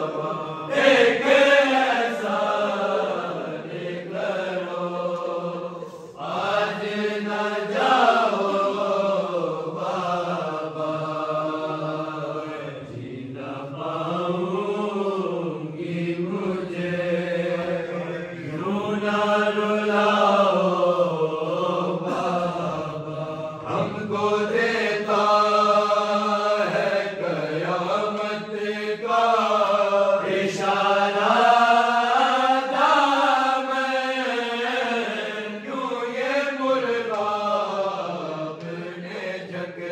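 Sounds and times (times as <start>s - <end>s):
men chanting together: 0.0s - 39.9s.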